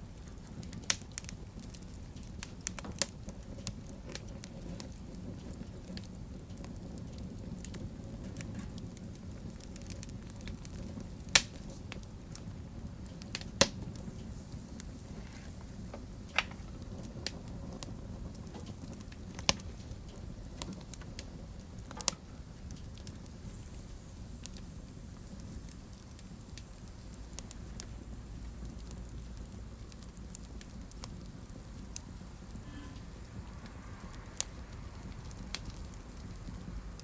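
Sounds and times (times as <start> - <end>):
fire crackles and pops: 0.0 - 37.0
fire rumbling in fireplace: 0.0 - 37.0.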